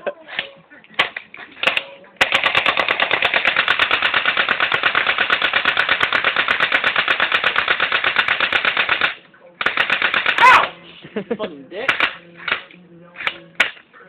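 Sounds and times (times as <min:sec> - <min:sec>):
bb gun firing automatic burst: 0:01.0 - 0:10.7, 0:11.9 - 0:13.8.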